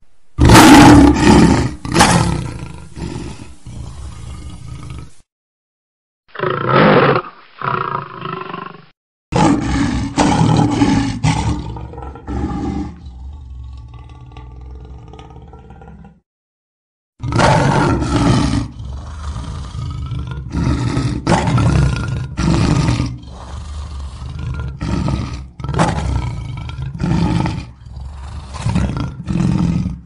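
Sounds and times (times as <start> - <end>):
lion roaring: 0.4 - 5.2, 6.4 - 16.2, 17.2 - 30.0.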